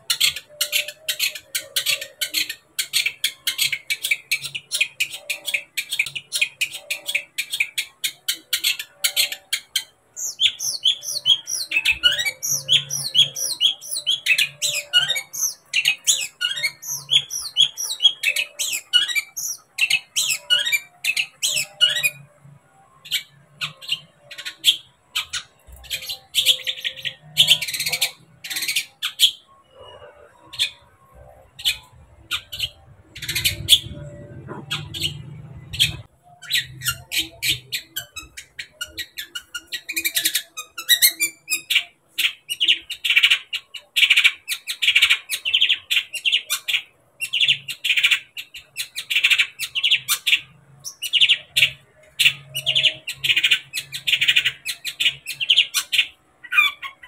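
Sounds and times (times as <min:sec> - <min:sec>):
bird chattering: 0:00.0 - 0:57.0.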